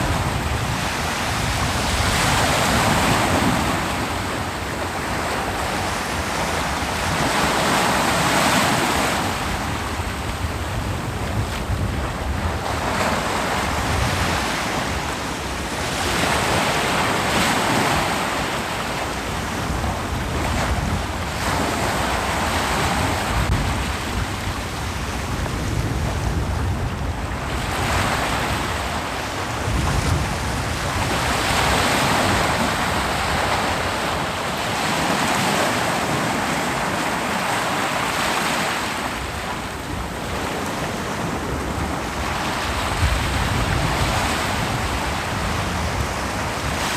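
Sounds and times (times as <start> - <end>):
ocean waves breaking: 0.0 - 46.9
wind on microphone: 0.0 - 46.9.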